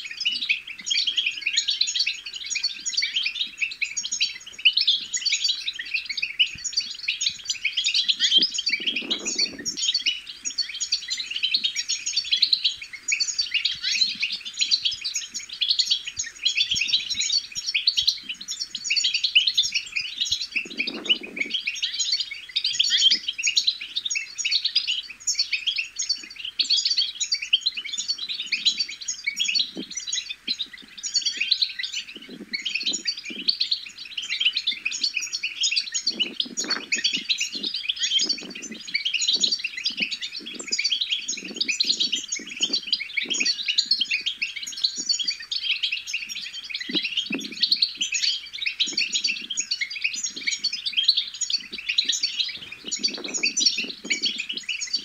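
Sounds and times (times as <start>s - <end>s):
finch twittering song: 0.0s - 55.0s.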